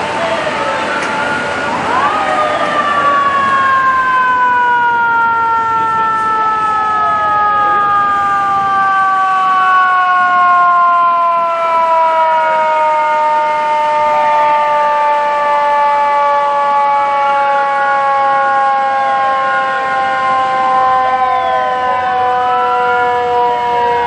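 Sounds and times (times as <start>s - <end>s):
distant sliding sirens: 0.0s - 24.0s
mechanical siren winding down: 0.0s - 24.0s.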